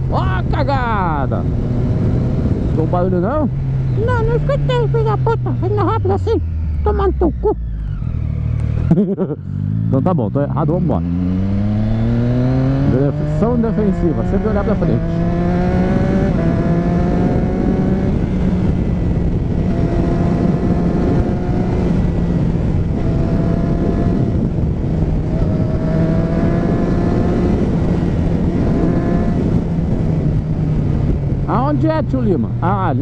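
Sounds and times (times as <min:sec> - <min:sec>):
motorcycle engine accelerating: 0:00.0 - 0:33.0
wind rumble on microphone: 0:00.0 - 0:33.0.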